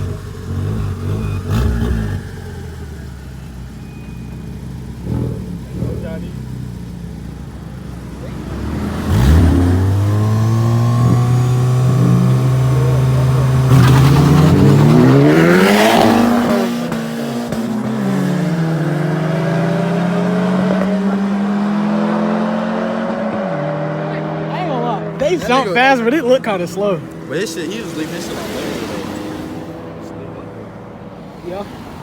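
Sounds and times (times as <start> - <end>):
cars passing close by: 0.0 - 32.0
racing car engines: 0.0 - 32.0.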